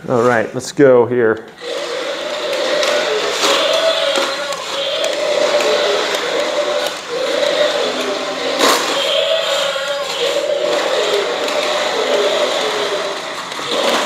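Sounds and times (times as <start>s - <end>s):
small gear motors whirring: 1.6s - 14.0s
toy electronic sound effect: 1.6s - 14.0s.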